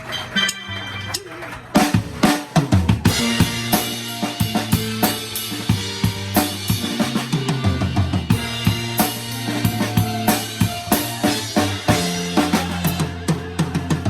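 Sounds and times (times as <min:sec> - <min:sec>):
instrumental band playing: 0:00.0 - 0:14.0
drum kit groove: 0:00.4 - 0:14.0.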